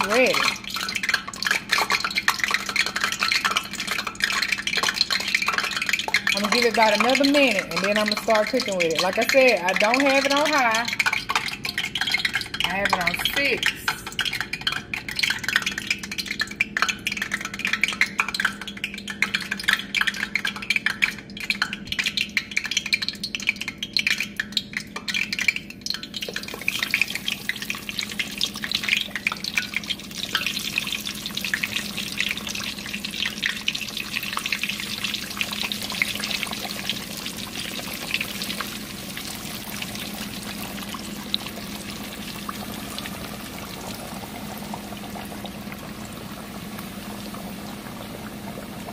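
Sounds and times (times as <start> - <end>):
fish deep-frying in oil: 0.0 - 48.9.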